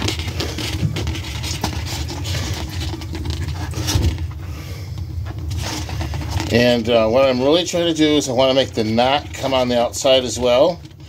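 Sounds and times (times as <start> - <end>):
balloons rubbing and scraping: 0.0 - 11.0.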